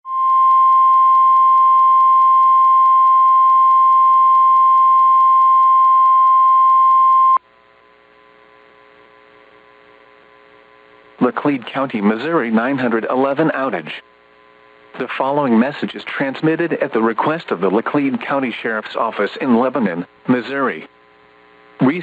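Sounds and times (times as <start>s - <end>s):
faint receiver hum: 0.1s - 22.0s.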